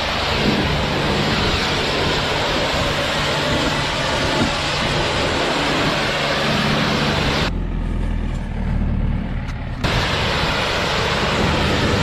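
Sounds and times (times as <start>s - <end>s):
loud rushing noise: 0.0s - 7.7s, 9.8s - 12.0s
tractor engine running: 0.0s - 12.0s.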